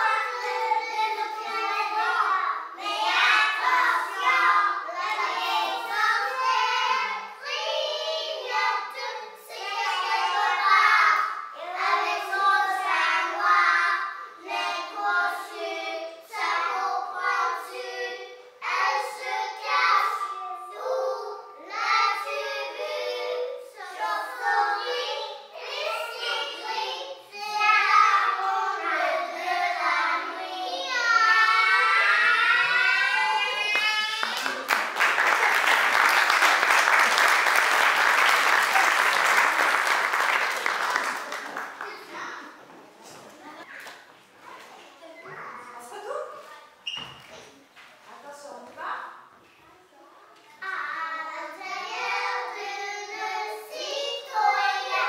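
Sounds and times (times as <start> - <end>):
young children singing: 0.0 - 42.7, 50.5 - 55.0.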